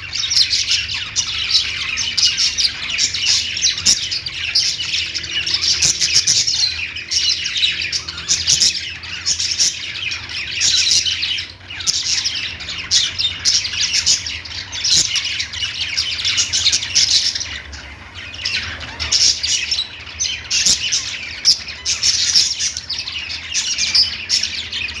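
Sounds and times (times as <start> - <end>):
parrot squawks: 0.0 - 25.0
parrots chattering and chirping: 0.0 - 25.0.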